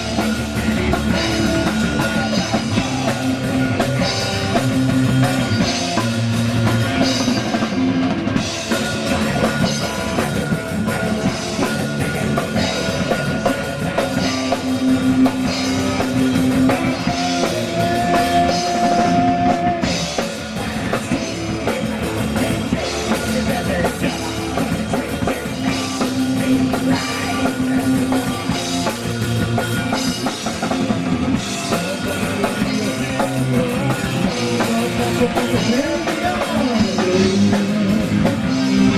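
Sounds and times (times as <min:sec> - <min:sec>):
drum kit beat: 0:00.0 - 0:38.9
electric guitar long notes: 0:00.0 - 0:38.9.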